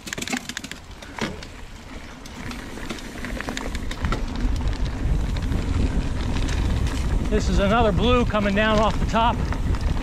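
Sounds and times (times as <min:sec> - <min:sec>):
bike clicks and rattles: 0:00.0 - 0:10.0
tyres rumbling on dirt: 0:00.0 - 0:10.0
wind: 0:00.0 - 0:10.0.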